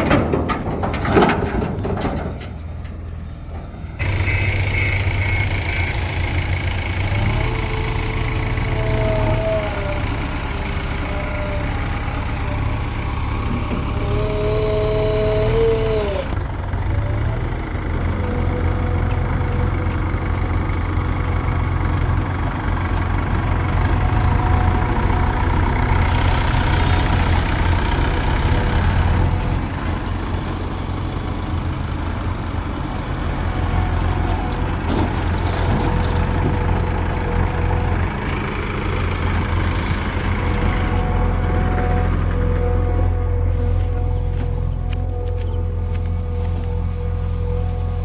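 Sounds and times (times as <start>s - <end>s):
diesel machinery engine hum: 0.0s - 48.0s.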